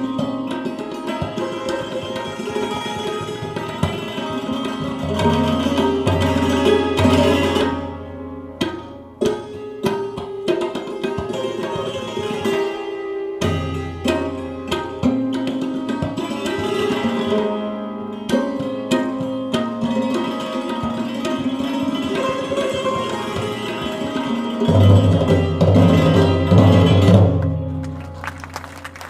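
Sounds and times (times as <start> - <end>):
instrumental background music: 0.0 - 29.0.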